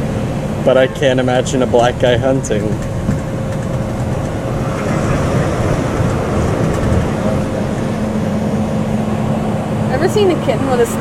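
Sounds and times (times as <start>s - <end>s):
vehicle rumble and hiss: 0.0s - 11.0s.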